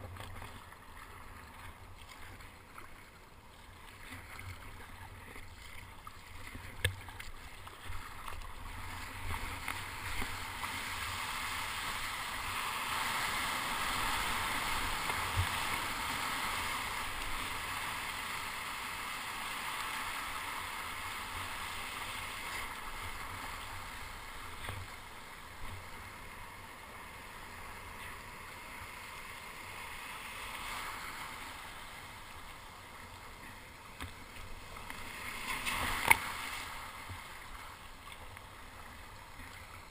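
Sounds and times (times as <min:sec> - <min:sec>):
surf and whitewater rushing: 0:00.0 - 0:39.9.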